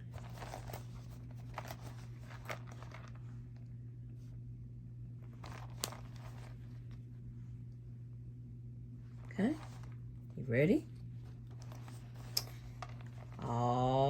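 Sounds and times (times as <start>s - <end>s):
faint rustling of packaging: 0.0s - 4.4s, 5.1s - 7.6s, 9.0s - 14.0s
steady low hum: 0.0s - 14.0s.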